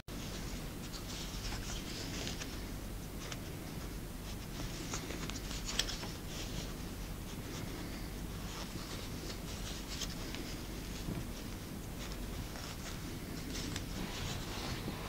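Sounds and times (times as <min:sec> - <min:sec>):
yarn rustling: 0:00.1 - 0:15.0.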